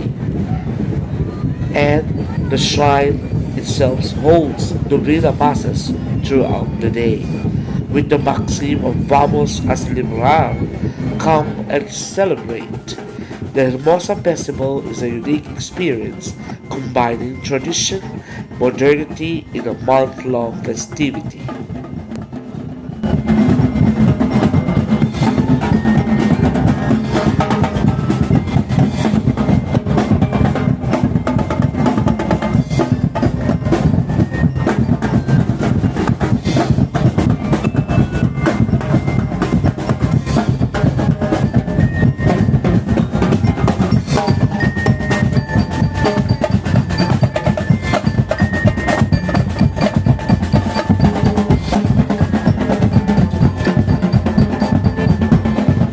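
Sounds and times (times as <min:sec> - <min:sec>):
fast dense drumming: 0:00.0 - 0:55.9
ringing tones: 0:08.1 - 0:55.9.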